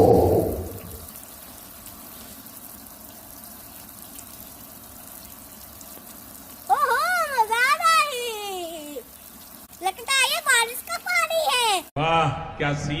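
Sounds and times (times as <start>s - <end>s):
shower water spraying into pool: 0.0s - 11.9s.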